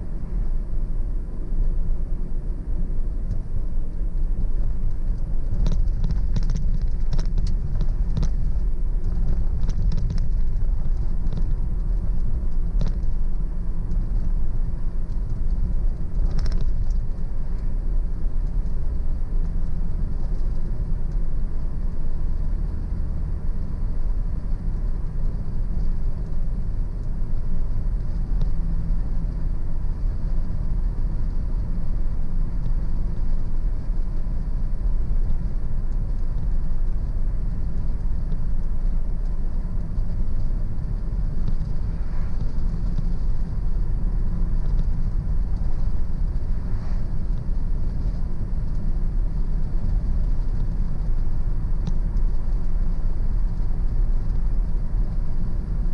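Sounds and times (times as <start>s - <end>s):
car engine rumble: 0.0s - 55.9s
tyre road noise: 0.0s - 55.9s.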